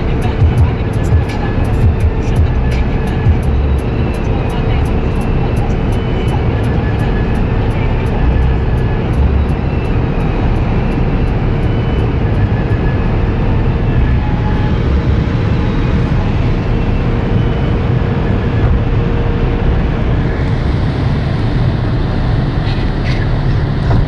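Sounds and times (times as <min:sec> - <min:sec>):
diesel engine drone: 0:00.0 - 0:24.0
wind and road noise: 0:00.0 - 0:24.0.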